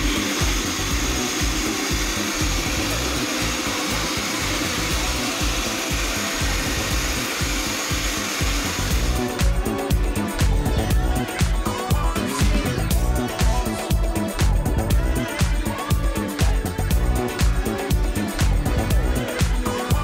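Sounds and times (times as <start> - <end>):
background music: 0.0 - 20.0
grooming blower rushing air: 0.0 - 20.0.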